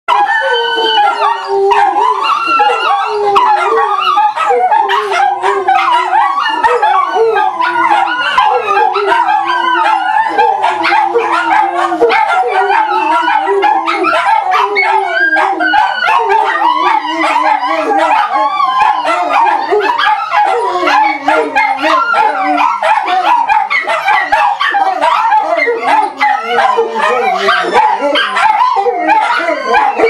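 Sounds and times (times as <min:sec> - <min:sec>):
dogs howling in chorus: 0:00.1 - 0:30.0
small dogs yipping and barking: 0:00.1 - 0:30.0.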